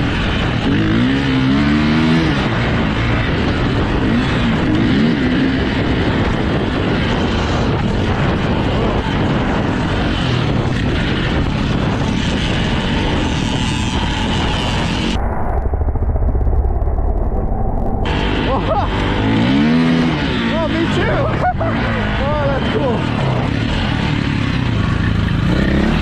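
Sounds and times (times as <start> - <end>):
motorcycle engine under load: 0.0 - 26.0
wind noise on microphone: 0.0 - 26.0.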